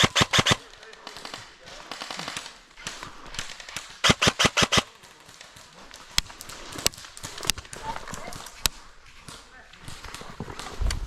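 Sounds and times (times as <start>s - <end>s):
airsoft guns firing: 0.0s - 10.8s.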